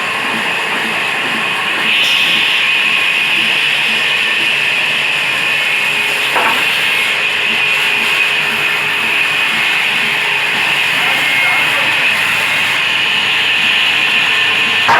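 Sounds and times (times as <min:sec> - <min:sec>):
saw cutting wood: 0:00.0 - 0:14.9
saw scraping: 0:00.0 - 0:14.9.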